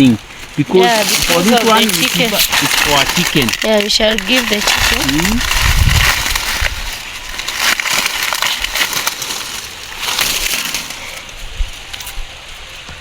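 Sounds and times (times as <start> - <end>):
dry maize plants crackling: 0.0 - 13.0.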